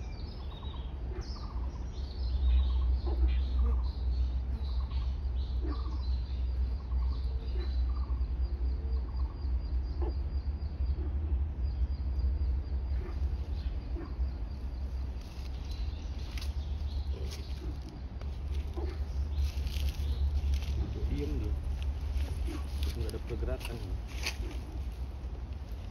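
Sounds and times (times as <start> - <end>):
bird calls: 0.0 - 25.9
low rumble: 0.0 - 25.9.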